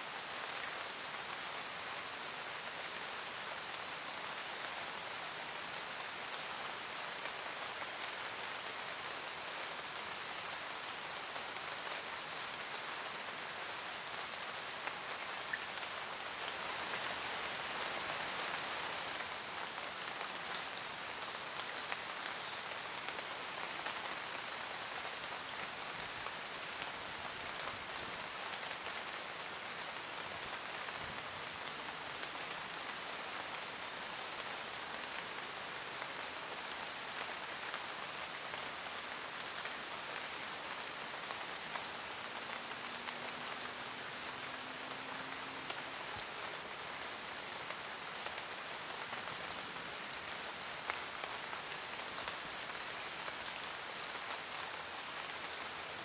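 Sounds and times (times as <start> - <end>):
rain on forest leaves: 0.0 - 56.0.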